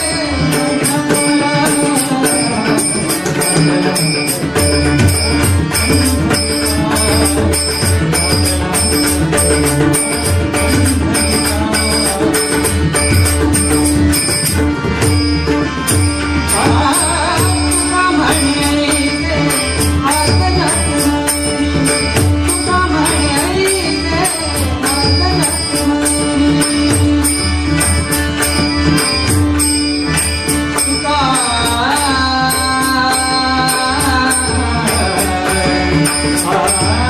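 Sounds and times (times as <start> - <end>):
man singing devotional song: 0.0 - 37.0.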